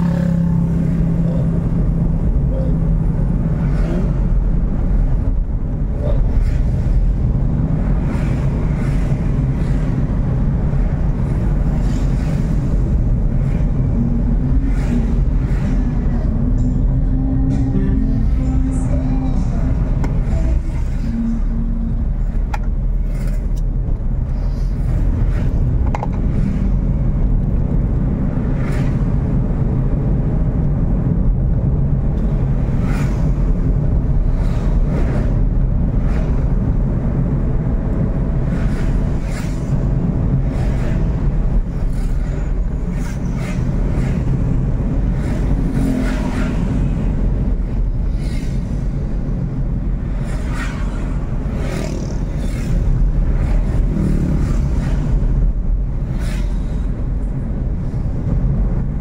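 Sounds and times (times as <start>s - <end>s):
cars and motorcycles swishing past: 0.0s - 16.6s, 17.4s - 30.5s, 32.0s - 58.9s
vehicle road rumble: 0.0s - 59.0s.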